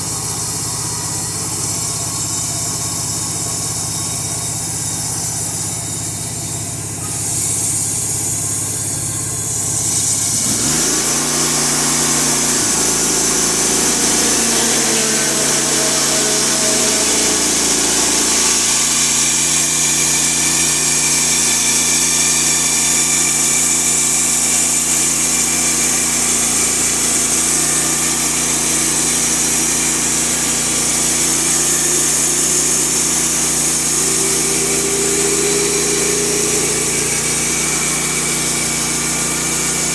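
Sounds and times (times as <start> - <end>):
band saw blade hissing: 0.0 - 39.9
gasoline engine running: 0.0 - 39.9.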